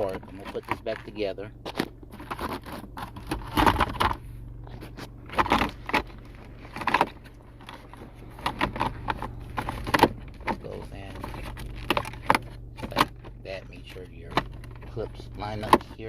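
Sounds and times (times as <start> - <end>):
plastic trim scraping and clicking: 0.0 - 16.0.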